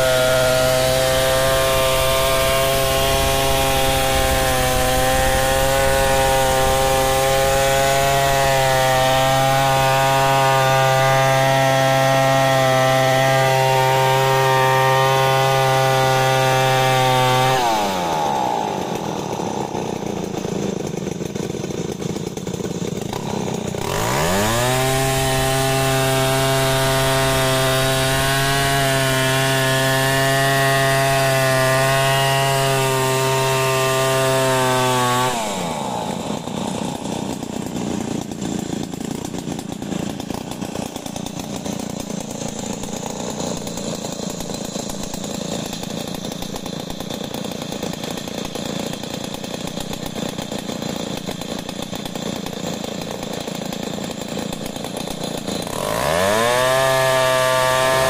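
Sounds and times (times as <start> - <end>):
chainsaw cutting through log: 0.0 - 58.0
chainsaw idling roughly: 0.0 - 58.0.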